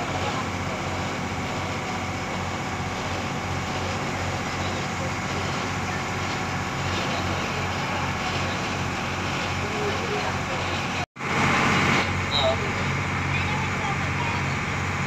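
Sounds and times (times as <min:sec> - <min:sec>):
motorboat engine drone: 0:00.0 - 0:15.0
water rushing along hull: 0:00.0 - 0:15.0.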